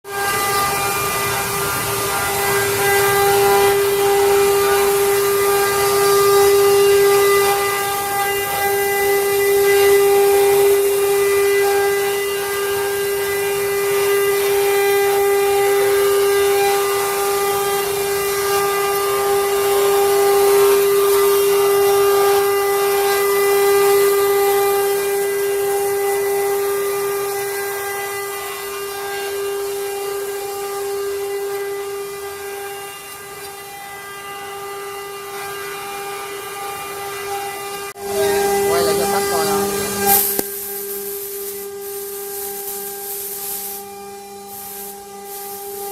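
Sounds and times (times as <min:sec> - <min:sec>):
router spindle whine carving wood: 0:00.0 - 0:45.9.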